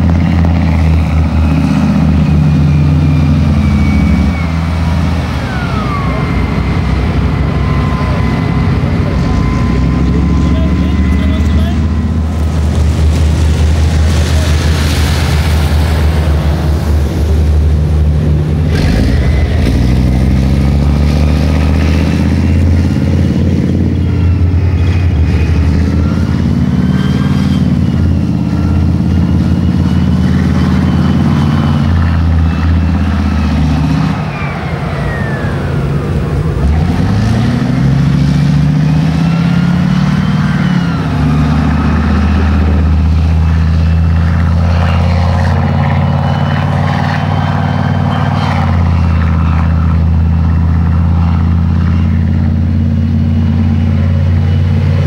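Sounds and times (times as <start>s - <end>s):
high whine of running gear: 0.0s - 55.0s
tank diesel engine droning: 0.0s - 55.0s.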